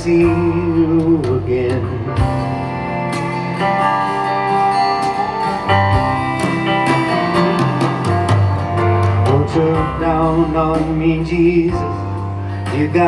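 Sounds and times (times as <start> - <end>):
acoustic guitar picking: 0.0 - 13.0
bass line: 0.0 - 13.0.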